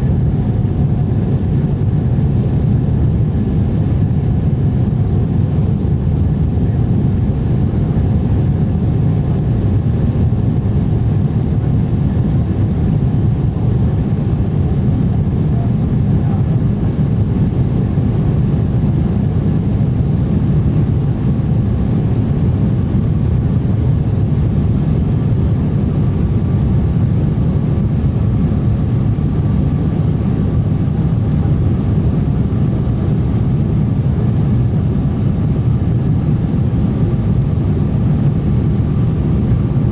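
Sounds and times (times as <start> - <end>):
airliner engine roar: 0.0 - 39.9.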